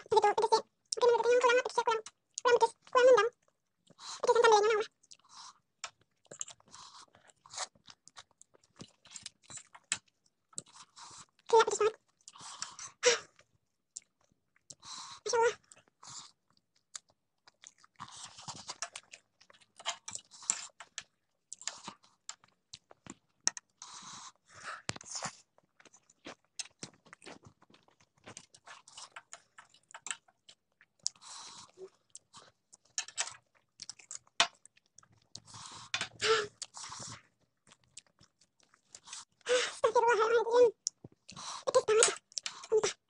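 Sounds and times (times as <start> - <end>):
wet chewing and slurping: 0.0 - 39.9, 40.7 - 43.0.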